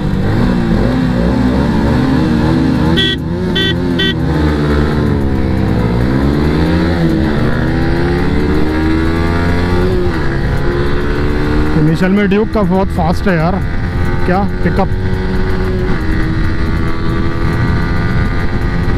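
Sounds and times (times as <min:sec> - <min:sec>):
motorcycle engine accelerating: 0:00.0 - 0:18.9.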